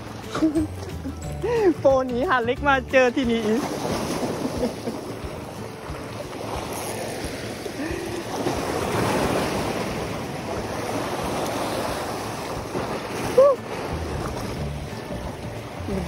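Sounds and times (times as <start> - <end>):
waves splashing over rocks: 0.0 - 16.0.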